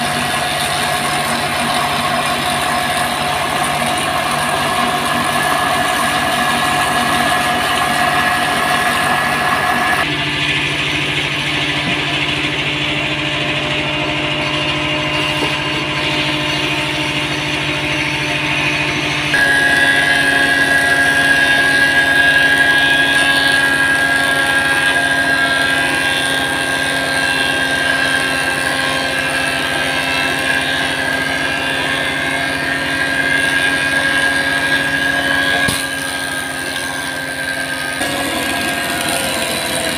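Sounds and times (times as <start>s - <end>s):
wood planer whining: 0.0s - 39.9s.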